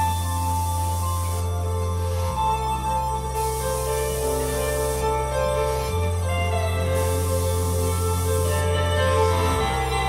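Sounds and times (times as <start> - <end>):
low bass drone: 0.0 - 10.0
piano: 0.0 - 10.0.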